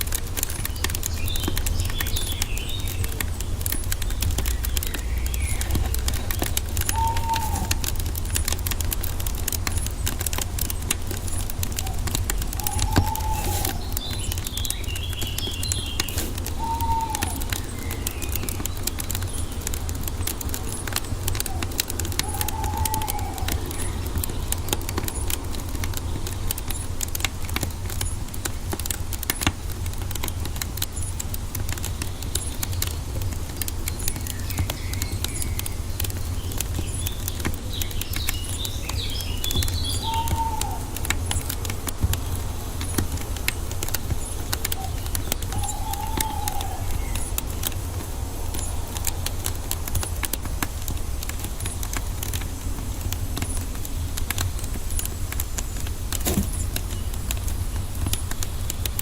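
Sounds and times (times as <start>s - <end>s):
wood fire crackling: 0.0s - 59.0s
bird calling: 0.4s - 28.2s, 31.0s - 52.4s.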